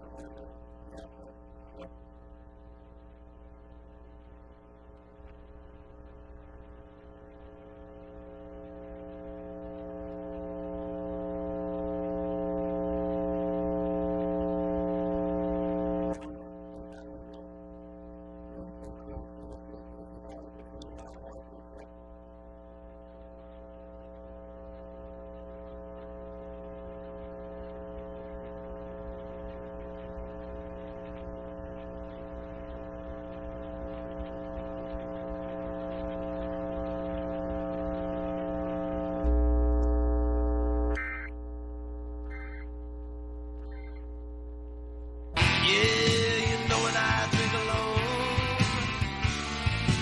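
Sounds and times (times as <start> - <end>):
buzzing drone: 0.0 - 50.0
loud deep hum: 5.4 - 50.0.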